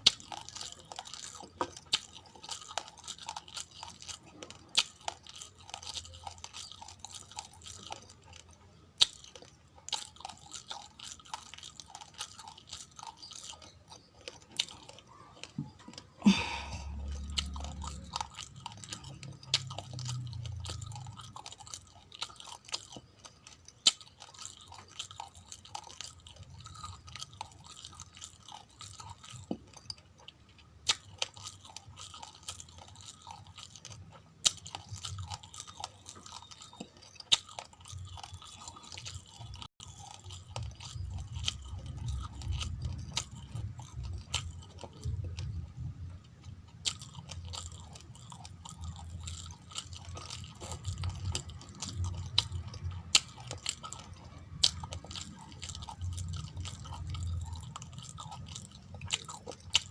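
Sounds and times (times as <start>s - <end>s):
chewing and crunching rice grains: 0.0s - 59.9s.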